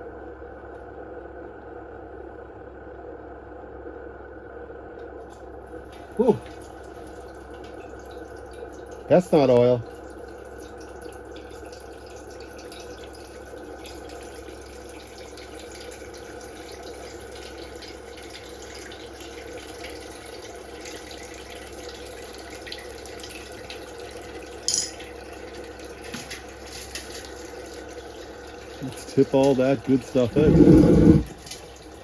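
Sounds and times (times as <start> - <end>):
fluid trickling into drain pan: 5.9 - 32.0.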